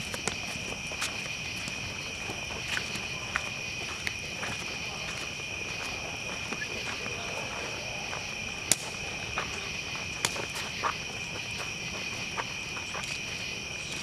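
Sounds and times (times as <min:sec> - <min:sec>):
campfire crackling and popping: 0:00.0 - 0:14.0
night insects chorus: 0:00.0 - 0:14.0.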